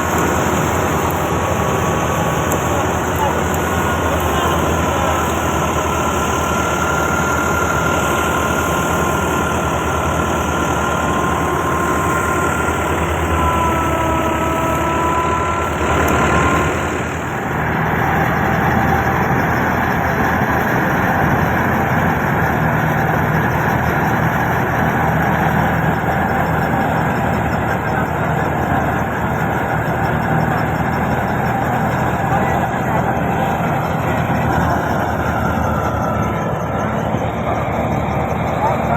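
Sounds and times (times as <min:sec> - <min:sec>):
faint whine: 0:00.0 - 0:38.9
harvester engine running: 0:00.0 - 0:38.9.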